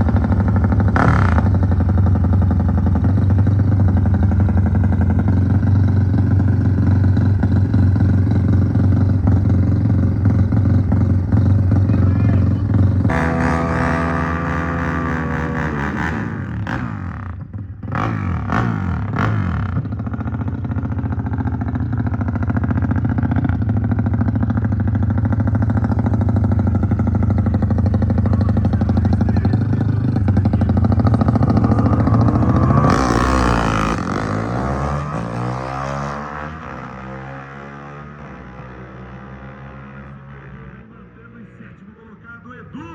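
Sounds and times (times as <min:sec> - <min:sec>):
motorcycle engine revving: 0:00.0 - 0:41.2.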